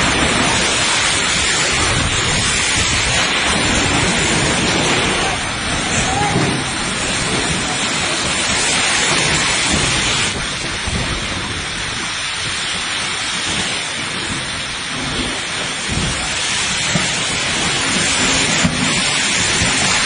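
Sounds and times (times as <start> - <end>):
heavy rain pouring: 0.0 - 20.0
low thunder rumbles: 0.0 - 20.0.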